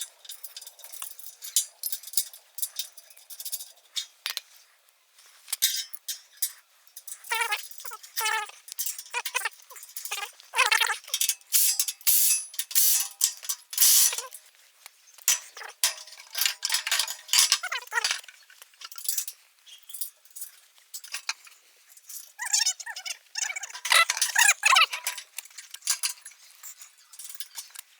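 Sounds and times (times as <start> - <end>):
metal tools clinking and clanking: 0.0 - 4.4, 5.5 - 14.4, 15.2 - 22.5, 23.4 - 27.9.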